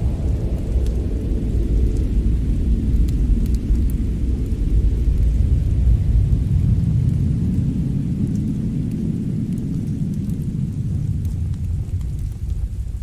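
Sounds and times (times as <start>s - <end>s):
faint fire crackles: 0.0s - 13.0s
fire low rumble: 0.0s - 13.0s.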